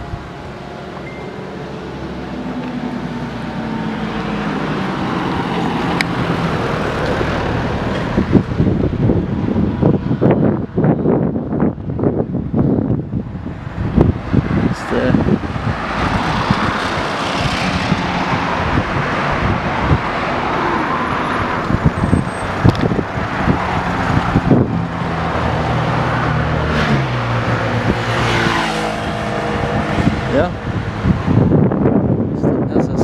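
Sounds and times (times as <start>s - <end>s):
vehicle engine humming: 0.0s - 32.4s
road traffic passing: 0.0s - 33.0s.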